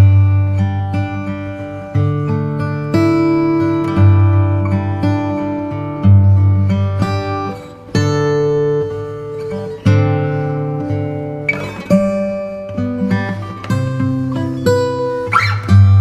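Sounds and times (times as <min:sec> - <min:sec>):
acoustic guitar playing chords: 0:00.0 - 0:16.0.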